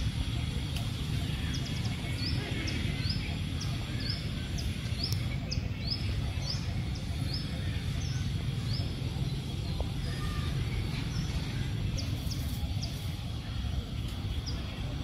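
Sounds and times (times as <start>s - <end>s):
bird chirping: 0.0s - 15.0s
low outdoor rumble: 0.0s - 15.0s.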